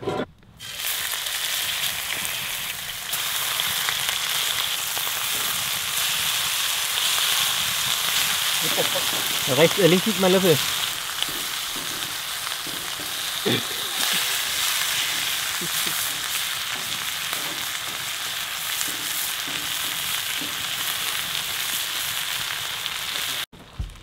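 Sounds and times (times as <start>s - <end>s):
bacon sizzling in pans: 0.6s - 23.5s.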